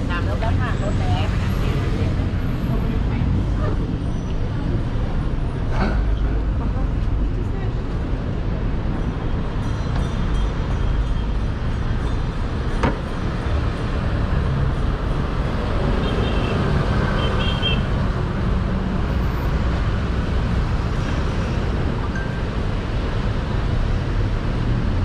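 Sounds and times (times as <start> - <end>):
rumble of cars and buses: 0.0 - 25.0.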